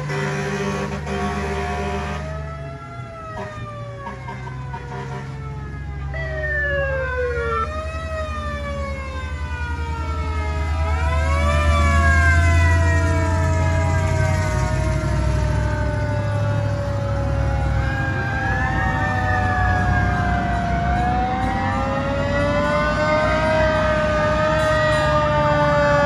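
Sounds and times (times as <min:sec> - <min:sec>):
sirens wailing: 0:00.0 - 0:26.0
truck engine rumble: 0:00.0 - 0:26.0.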